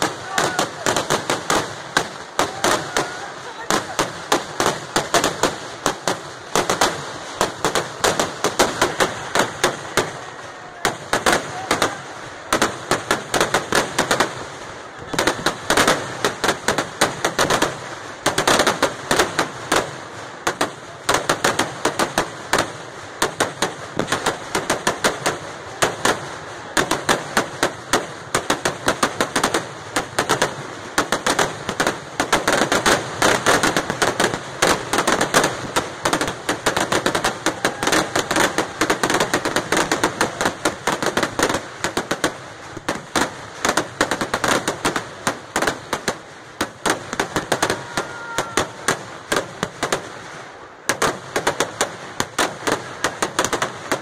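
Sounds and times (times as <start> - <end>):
firecracker bangs barrage: 0.0 - 54.0.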